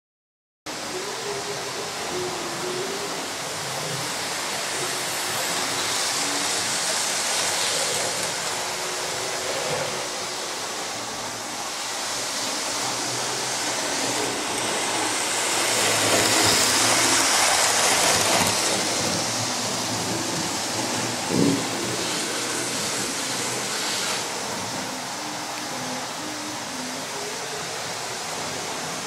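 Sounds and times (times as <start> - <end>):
model train motors whirring: 0.8 - 29.0.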